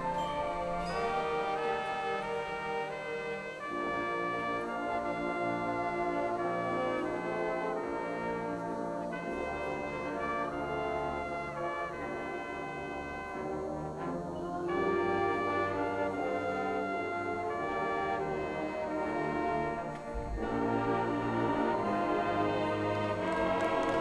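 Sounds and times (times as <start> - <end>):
marching band brass chords: 0.0 - 24.0.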